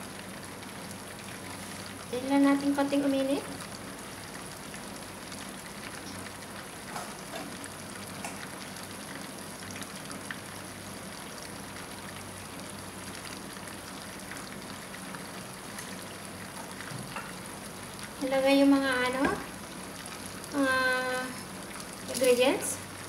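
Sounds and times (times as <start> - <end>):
oil sizzling: 0.0 - 23.0.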